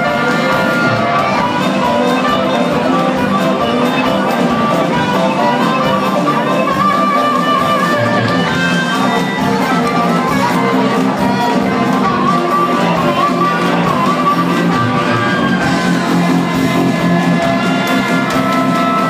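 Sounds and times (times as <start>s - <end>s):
amplified harmonica: 0.0s - 19.0s
blues band playing live: 0.0s - 19.0s.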